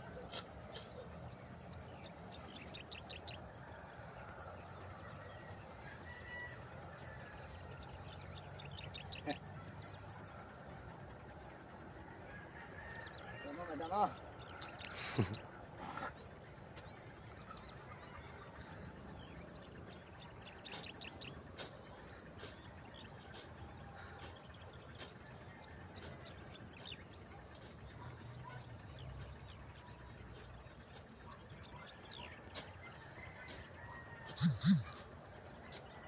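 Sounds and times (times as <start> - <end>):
crickets and insects chirping: 0.0 - 36.0.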